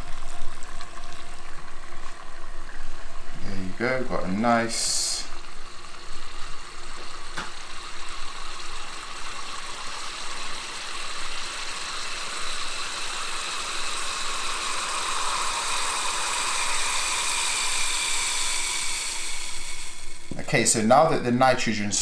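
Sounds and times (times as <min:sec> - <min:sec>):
liquid nitrogen boiling hiss: 0:00.0 - 0:22.0.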